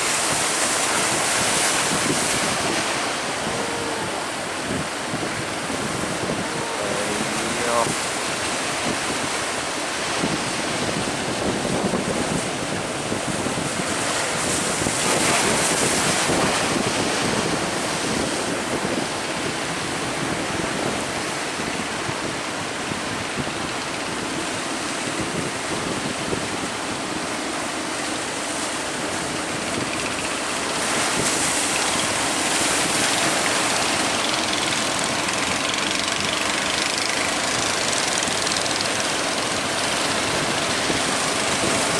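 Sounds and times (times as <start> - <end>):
rough sea waves: 0.0 - 41.9
wind: 0.0 - 41.9.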